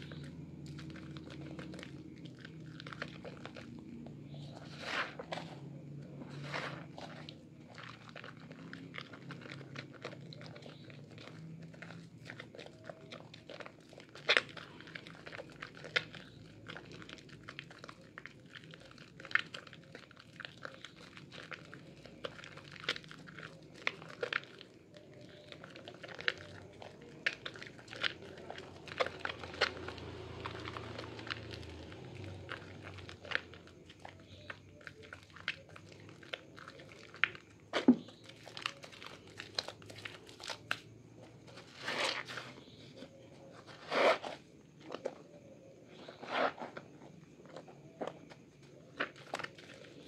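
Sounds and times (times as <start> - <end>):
wet soap lather squishing: 0.0 - 50.0.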